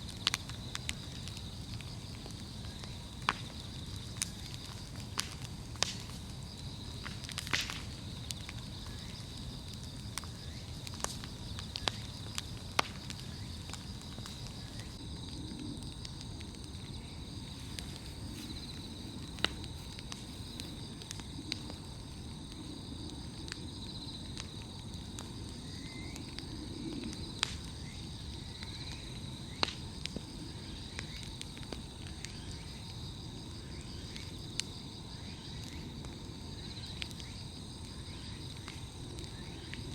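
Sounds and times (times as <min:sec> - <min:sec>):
bonfire crackling and popping: 0:00.0 - 0:39.9
insects trilling: 0:00.0 - 0:39.9.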